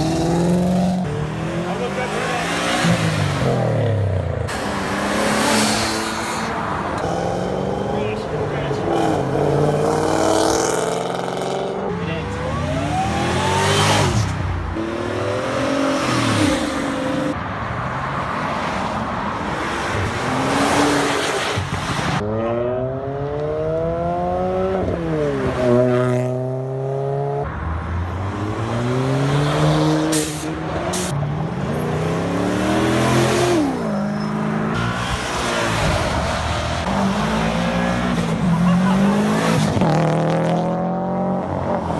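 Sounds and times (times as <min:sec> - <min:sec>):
cars accelerating hard: 0:00.0 - 0:41.9.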